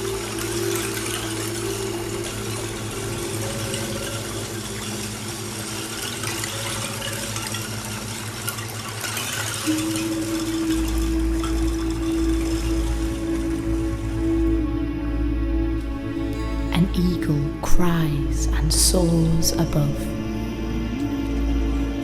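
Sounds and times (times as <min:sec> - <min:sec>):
low musical drone: 0:00.0 - 0:22.0
rushing water: 0:00.0 - 0:22.0.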